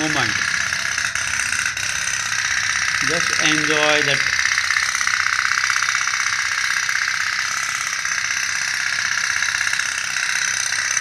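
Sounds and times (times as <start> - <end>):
toy boat boiler pulsing: 0.0 - 11.0.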